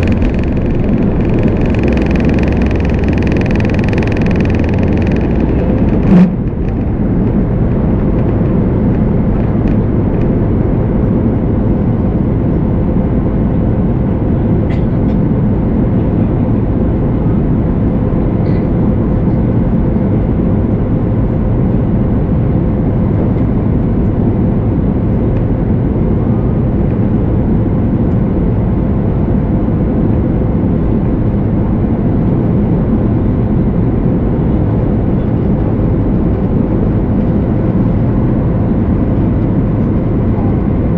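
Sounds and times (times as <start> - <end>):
jet engines running at high power: 0.0 - 40.9.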